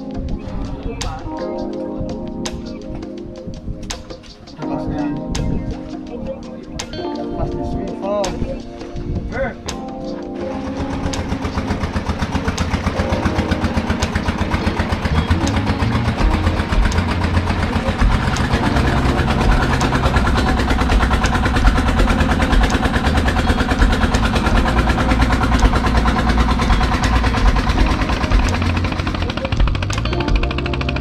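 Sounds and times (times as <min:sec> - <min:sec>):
boat engine running: 0:04.7 - 0:31.0.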